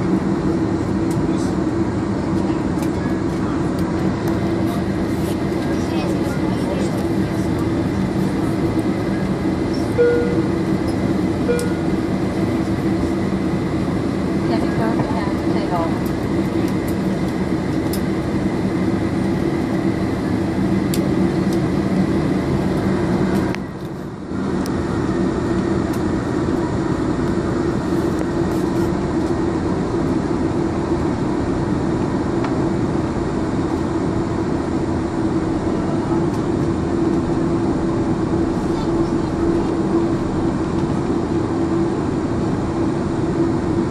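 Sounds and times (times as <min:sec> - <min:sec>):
jet engines droning: 0:00.0 - 0:43.9
low cabin hum: 0:00.0 - 0:43.9.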